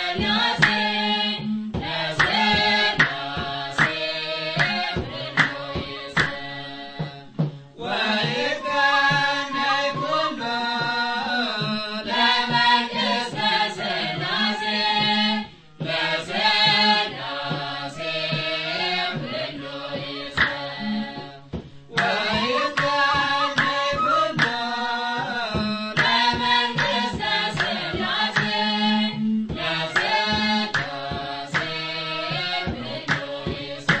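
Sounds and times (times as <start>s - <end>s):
hand drum beat: 0.0s - 34.0s
hymn singing: 0.0s - 34.0s.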